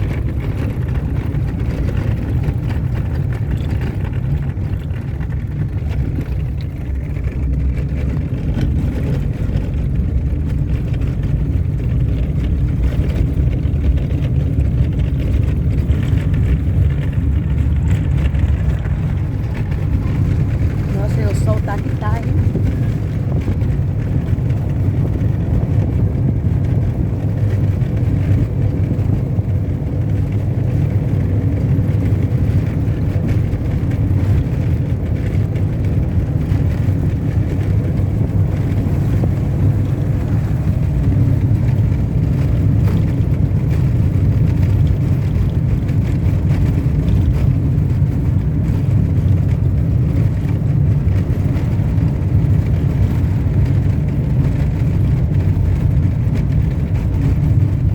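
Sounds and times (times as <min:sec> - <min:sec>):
tyres on dirt road: 0:00.0 - 0:57.9
vehicle engine rumble: 0:00.0 - 0:57.9.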